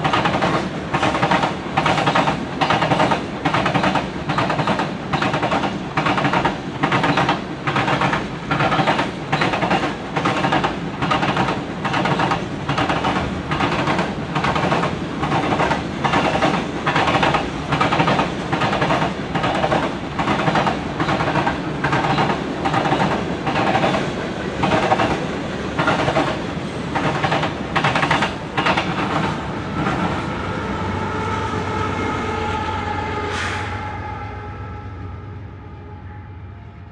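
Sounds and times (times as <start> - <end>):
train wheels clacking over rail joints: 0.0 - 30.3.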